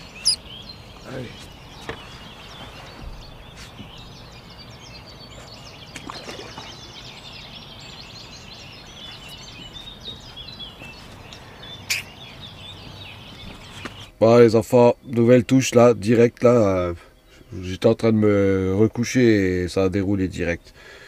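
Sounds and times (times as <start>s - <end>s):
small birds chirping and warbling: 0.0s - 21.0s.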